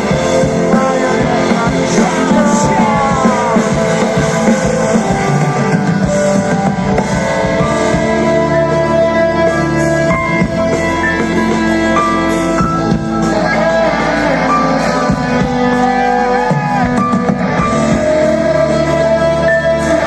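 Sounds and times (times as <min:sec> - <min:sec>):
electric guitar lines: 0:00.0 - 0:20.0
live rock band: 0:00.0 - 0:20.0.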